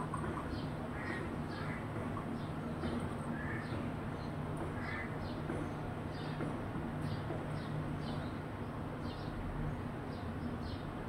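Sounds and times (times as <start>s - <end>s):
sparrows chirping: 0.0s - 11.0s
steady low hum: 0.0s - 11.0s.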